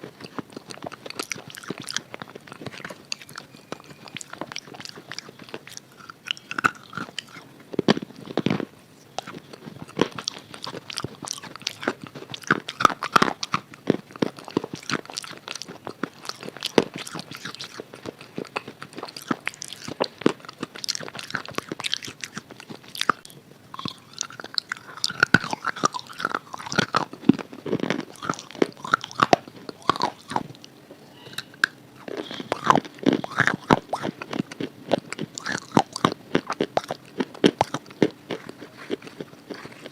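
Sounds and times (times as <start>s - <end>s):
crisp crunching and chewing: 0.0s - 39.9s.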